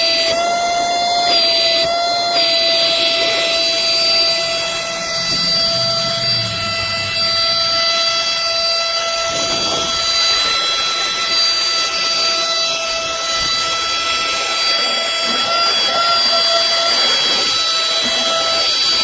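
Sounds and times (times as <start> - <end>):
rough suction rush: 0.0 - 19.0
vacuum motor whine: 0.0 - 19.0.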